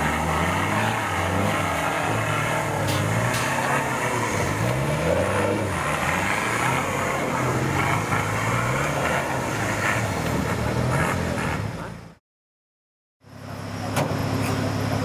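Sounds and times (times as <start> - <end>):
off-road vehicle engine revving: 0.0 - 12.2.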